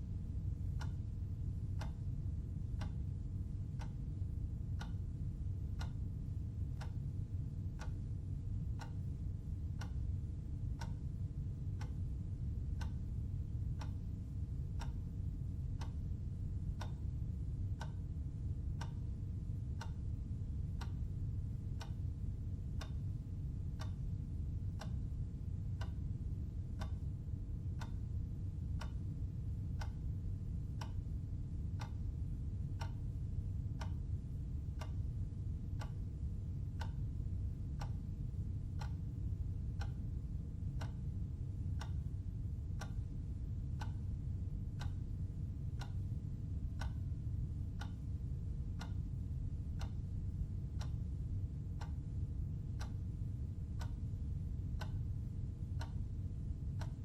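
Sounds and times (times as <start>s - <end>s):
clock ticking: 0.6s - 3.1s, 3.7s - 4.1s, 4.8s - 5.0s, 5.7s - 19.1s, 19.8s - 22.0s, 22.7s - 33.1s, 33.7s - 41.2s, 41.8s - 42.1s, 42.7s - 57.0s.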